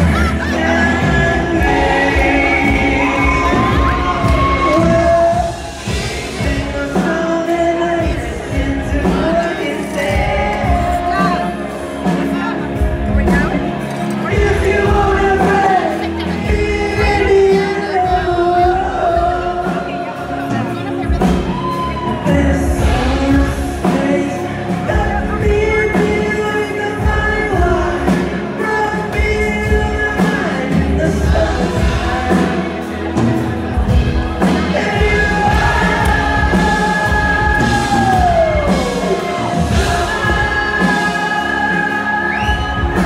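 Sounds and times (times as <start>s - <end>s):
man singing lead vocal: 0.0s - 43.0s
rock band playing: 0.0s - 43.0s.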